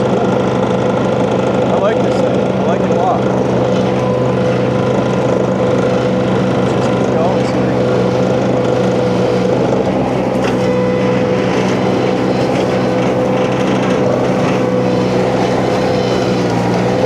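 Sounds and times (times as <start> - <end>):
engine running under load: 0.0 - 17.0
mulcher whine shredding brush: 0.0 - 17.0.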